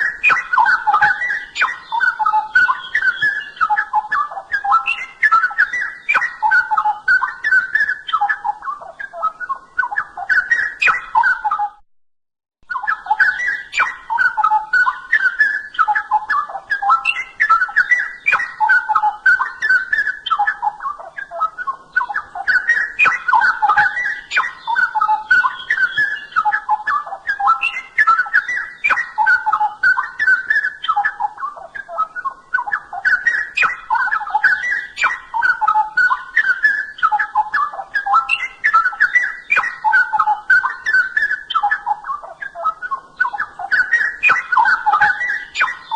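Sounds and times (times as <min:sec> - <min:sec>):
bird warbling song: 0:00.0 - 0:11.8, 0:12.6 - 0:45.9.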